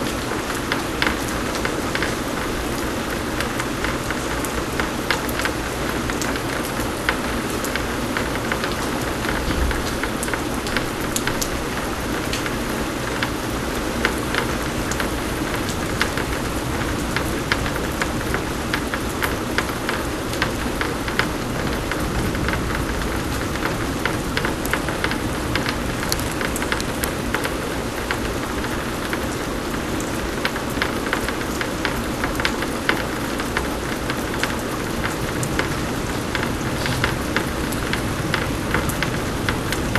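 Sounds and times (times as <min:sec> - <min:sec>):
raindrops ticking on surfaces: 0:00.0 - 0:39.9
steady pouring rain: 0:00.0 - 0:39.9.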